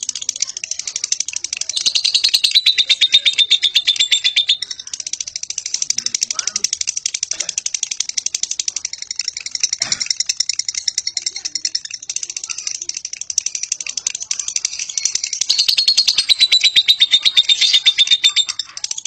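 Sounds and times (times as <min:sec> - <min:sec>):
lovebird high-pitched trill: 0:00.0 - 0:19.0.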